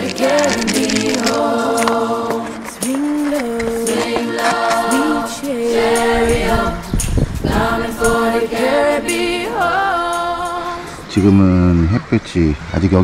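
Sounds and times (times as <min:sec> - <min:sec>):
choir-like sung notes: 0:00.0 - 0:12.2.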